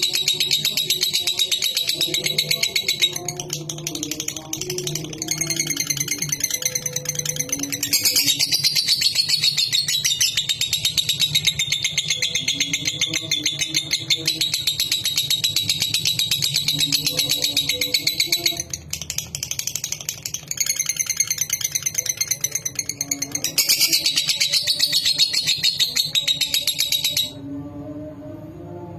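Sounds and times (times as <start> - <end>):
lovebird chattering trill: 0.0 - 27.4.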